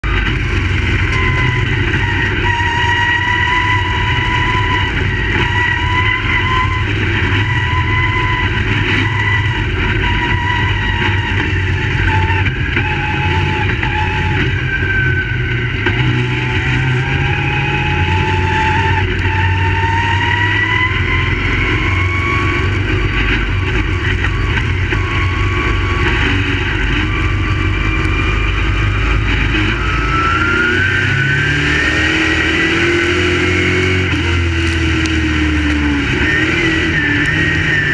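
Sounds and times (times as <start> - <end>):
race car engines revving: 0.0 - 37.9.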